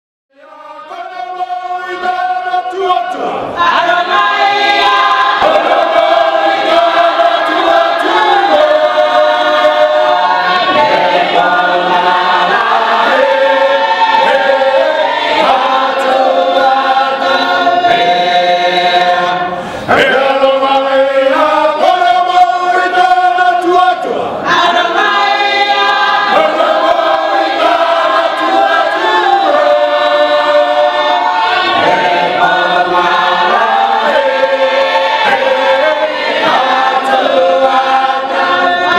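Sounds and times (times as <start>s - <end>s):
choir singing: 0.3s - 38.9s.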